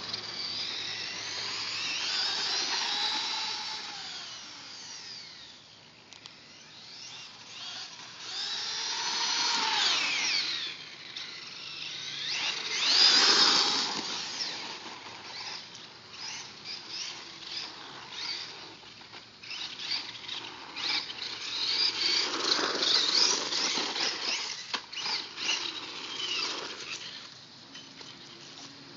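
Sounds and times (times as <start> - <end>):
toy truck motor whining: 0.0 - 28.7.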